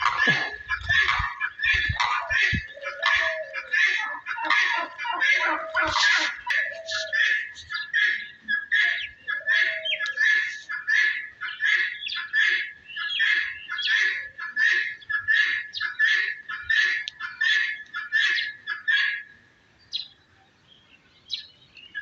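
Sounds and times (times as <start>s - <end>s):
constant high tone: 0.0s - 19.6s
birds harsh calls: 0.0s - 22.0s.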